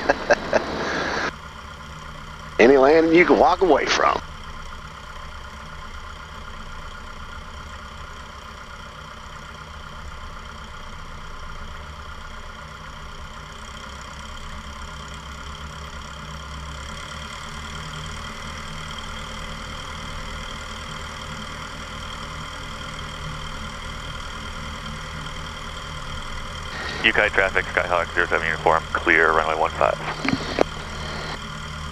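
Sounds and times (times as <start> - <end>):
propeller plane engine idling: 0.0 - 31.9.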